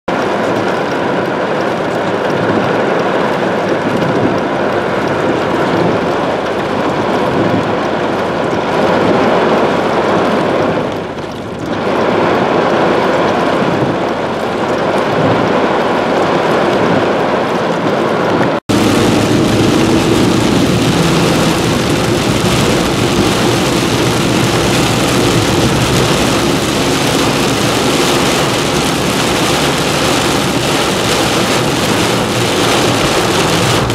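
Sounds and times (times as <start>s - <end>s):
car engine and tyres on wet road: 0.1s - 33.9s
heavy rain heard inside car: 0.1s - 33.9s
rain on car windshield: 0.1s - 33.9s.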